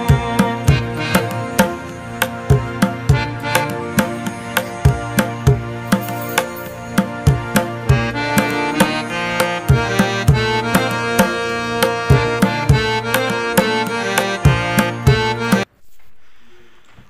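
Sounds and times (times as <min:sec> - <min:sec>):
hand drum beat: 0:00.0 - 0:15.6
sustained melodic notes: 0:00.0 - 0:15.7.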